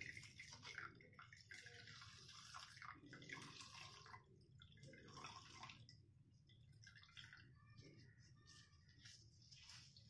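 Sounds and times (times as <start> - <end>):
faint trickle and drip of liquid: 0.0 - 10.0.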